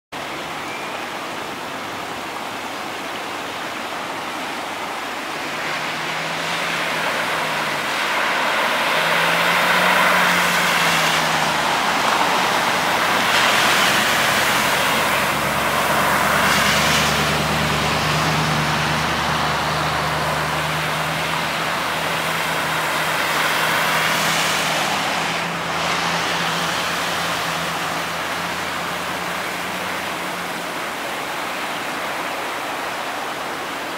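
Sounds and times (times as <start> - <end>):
car engines humming: 0.2 - 33.9
tyres splashing through floodwater: 0.2 - 33.9.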